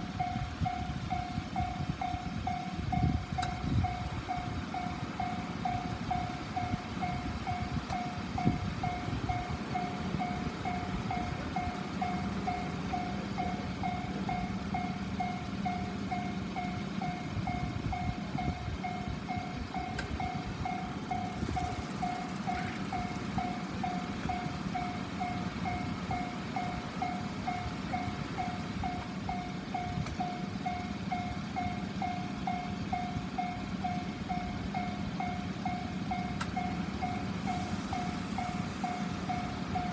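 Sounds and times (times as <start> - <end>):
train rumbling: 0.0 - 39.9
level crossing bell ringing: 3.8 - 39.9.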